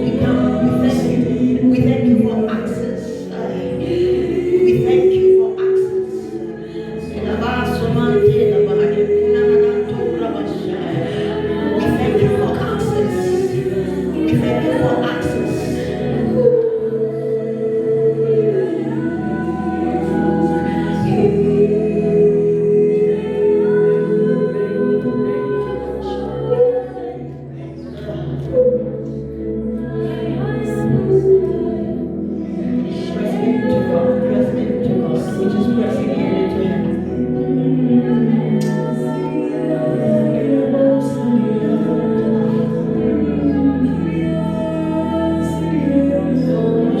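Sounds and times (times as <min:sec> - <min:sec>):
group singing worship song: 0:00.0 - 0:47.0.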